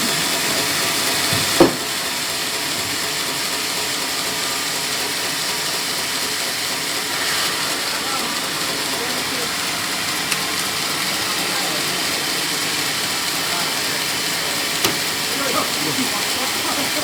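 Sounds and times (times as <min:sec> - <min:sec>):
sawmill saw cutting log: 0:00.0 - 0:17.0.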